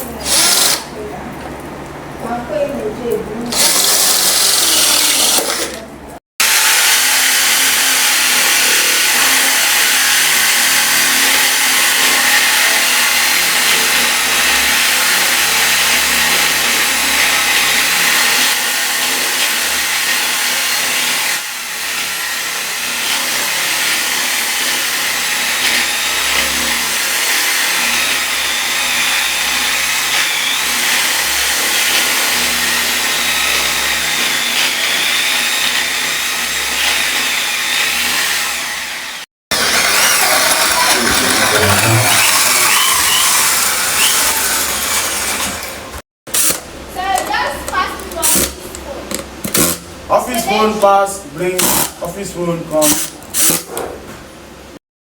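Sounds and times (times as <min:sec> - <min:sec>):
loud mechanical noise: 0:00.0 - 0:02.3, 0:03.4 - 0:54.8.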